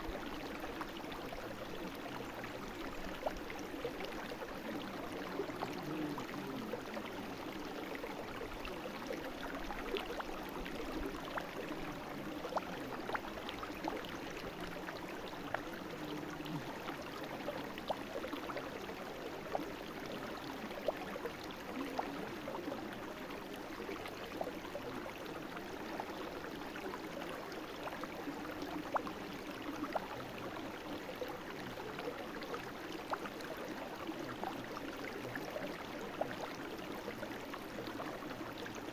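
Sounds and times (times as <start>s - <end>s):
brook babbling: 0.0s - 38.9s.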